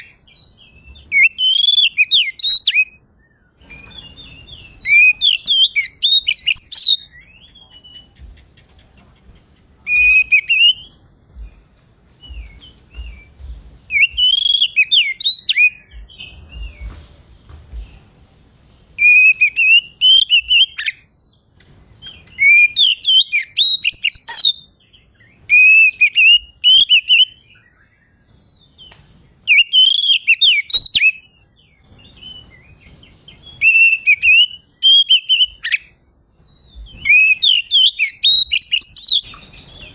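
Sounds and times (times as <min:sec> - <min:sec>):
bird singing whistled phrases: 0:00.0 - 0:08.2, 0:09.9 - 0:11.6, 0:12.2 - 0:17.0, 0:19.0 - 0:21.1, 0:22.0 - 0:24.7, 0:25.4 - 0:28.9, 0:29.5 - 0:35.9, 0:36.5 - 0:39.9.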